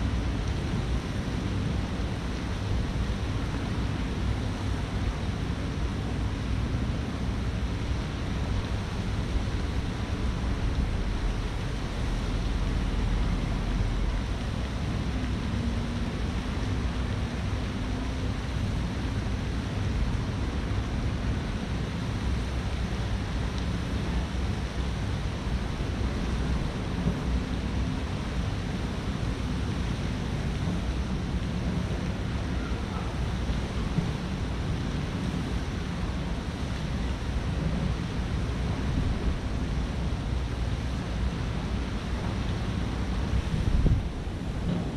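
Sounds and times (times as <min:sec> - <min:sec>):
rushing outdoor noise: 0:00.0 - 0:44.9.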